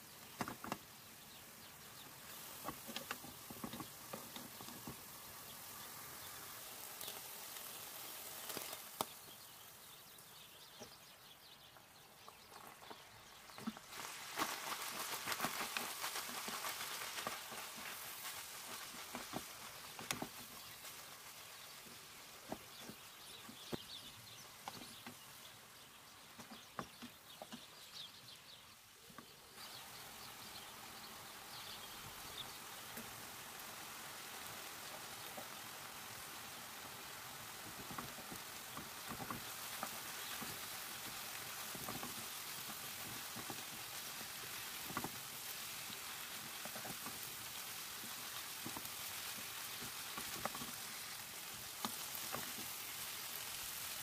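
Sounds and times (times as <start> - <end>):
meat and onions sizzling in a pan: 0.0 - 10.0, 13.8 - 23.8, 29.6 - 54.0.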